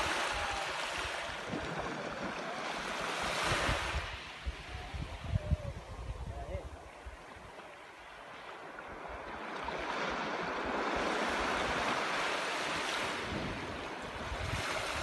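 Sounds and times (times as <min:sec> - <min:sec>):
small waves washing up beach: 0:00.0 - 0:15.0.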